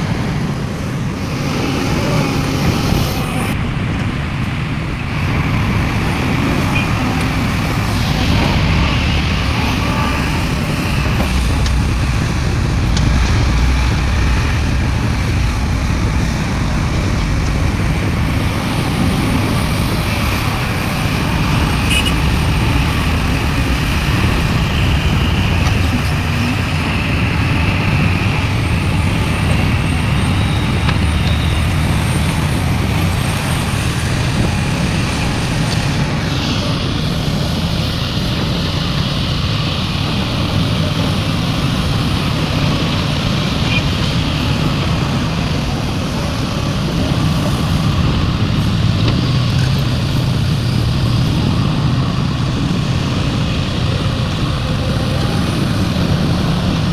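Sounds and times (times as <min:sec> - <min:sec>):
excavator diesel engine working: 0:00.0 - 0:56.9.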